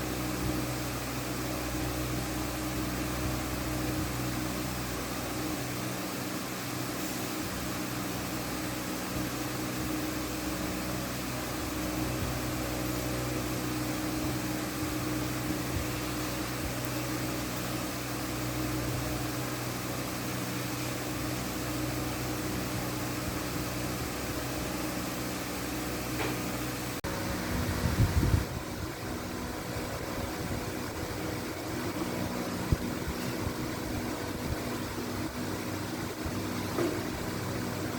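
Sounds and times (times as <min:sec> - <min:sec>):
electric fan running: 0:00.0 - 0:37.9.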